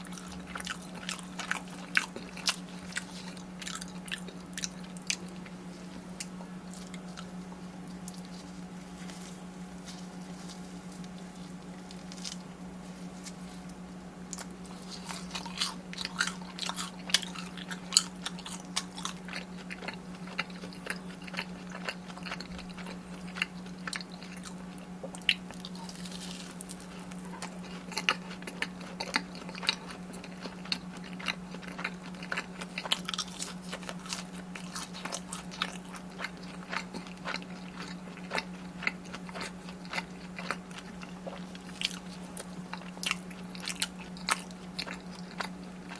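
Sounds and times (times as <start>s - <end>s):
crunchy biting and chewing: 0.0s - 45.9s
steady low hum: 0.0s - 45.9s.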